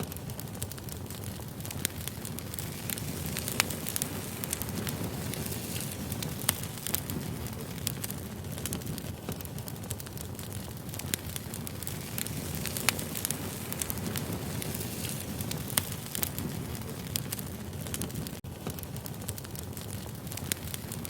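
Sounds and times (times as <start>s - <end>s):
firewood crackling: 0.0s - 21.0s
low rush of flames: 0.0s - 21.0s.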